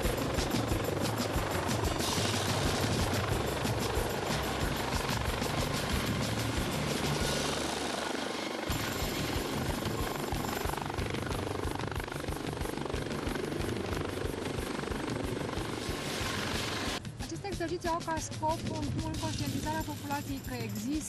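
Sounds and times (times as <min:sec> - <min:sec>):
helicopter rotor and turbine: 0:00.0 - 0:21.0.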